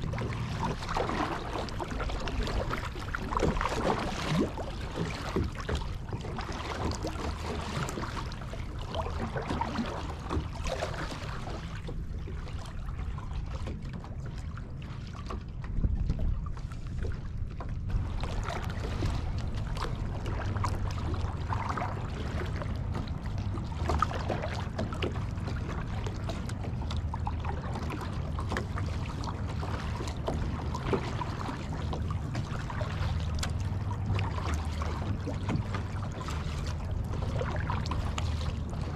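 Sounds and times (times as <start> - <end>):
paddle splashing in water: 0.0 - 38.9
wind rumble on microphone: 0.0 - 38.9.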